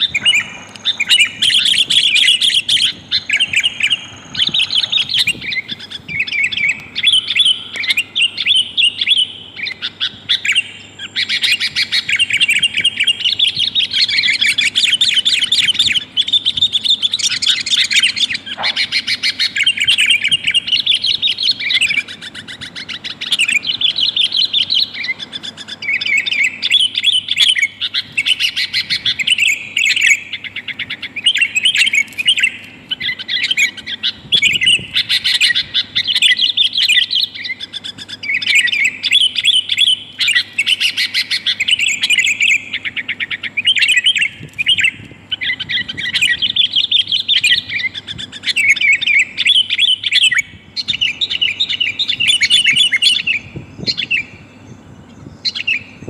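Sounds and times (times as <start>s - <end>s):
bird chirping in runs: 0.0s - 56.0s.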